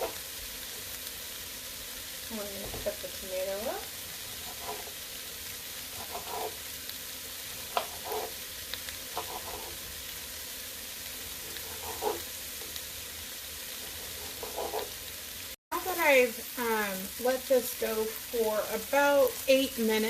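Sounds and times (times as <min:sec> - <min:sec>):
food sizzling in a pot: 0:00.0 - 0:20.0.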